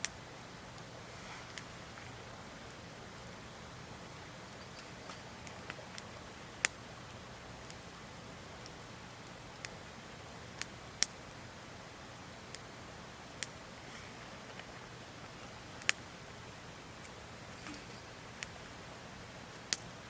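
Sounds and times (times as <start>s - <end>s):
campfire crackling and popping: 0.0s - 20.0s
faint hiss: 0.0s - 20.0s.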